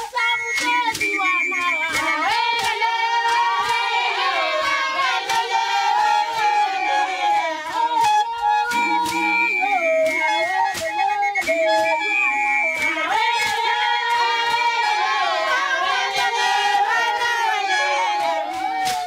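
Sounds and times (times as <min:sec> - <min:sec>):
hand-clapping: 0:00.0 - 0:19.0
high voices singing together: 0:00.0 - 0:19.0.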